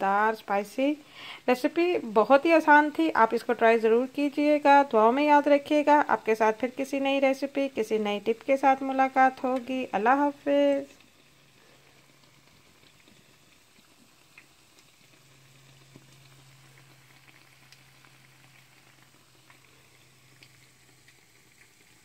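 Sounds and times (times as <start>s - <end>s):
kebabs sizzling in oil: 0.0s - 22.0s
low steady hum: 0.0s - 22.0s
small crackles and pops: 4.1s - 22.0s.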